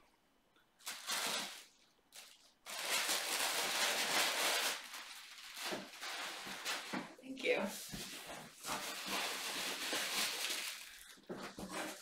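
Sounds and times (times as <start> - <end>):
paper and plastic wrapping rustling: 0.8 - 12.0.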